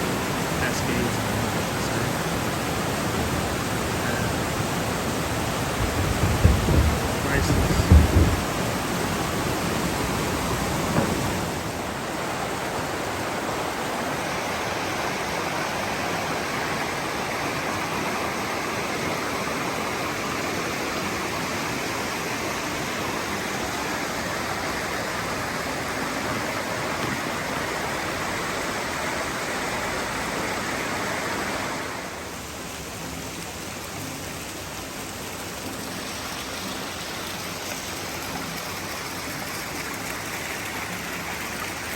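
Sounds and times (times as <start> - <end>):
stream rushing over cascades: 0.0 - 41.9.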